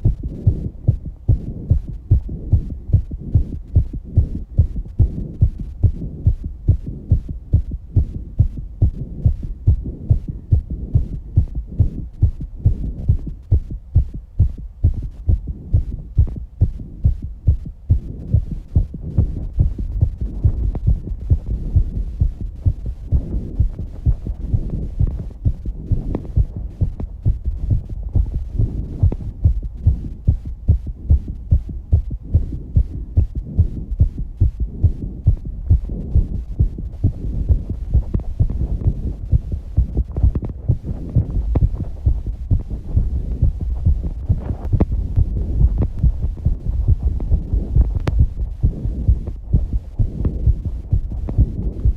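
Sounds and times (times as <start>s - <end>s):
heartbeat thudding: 0.0s - 51.9s
steady low rumble: 0.0s - 51.9s.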